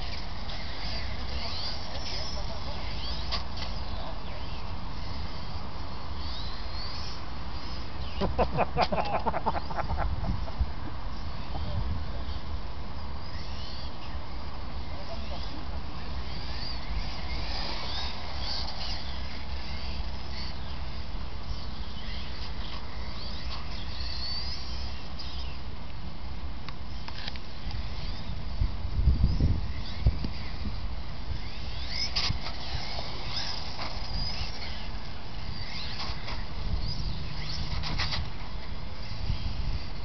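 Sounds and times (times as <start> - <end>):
faint high motor whine: 0.0 - 40.0.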